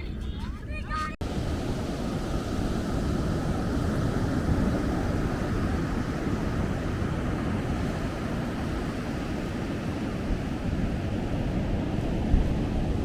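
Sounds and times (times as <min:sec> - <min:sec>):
wind on microphone: 0:00.0 - 0:13.0
ocean surf washing onto beach: 0:01.2 - 0:13.0.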